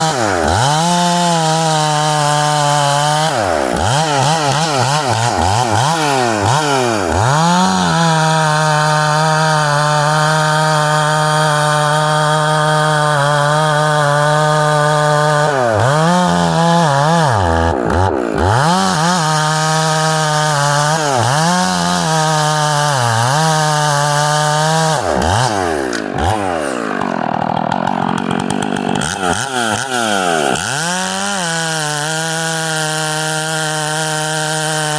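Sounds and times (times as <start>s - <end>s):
chainsaw cutting through tree: 0.0s - 34.9s.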